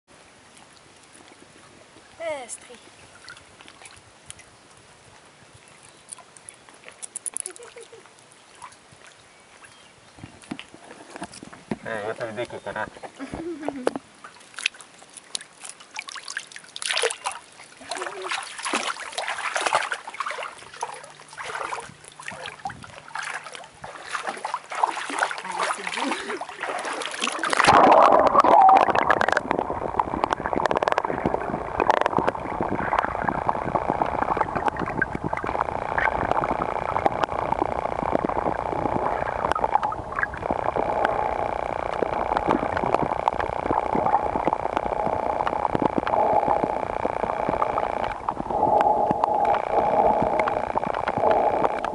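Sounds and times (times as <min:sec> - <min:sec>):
water splashing and trickling: 0:00.1 - 0:51.9
muffled underwater wash: 0:07.8 - 0:51.9.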